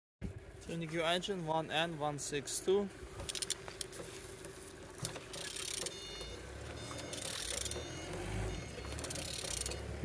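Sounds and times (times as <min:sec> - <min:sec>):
engine crank turning rumble: 0:00.3 - 0:10.0.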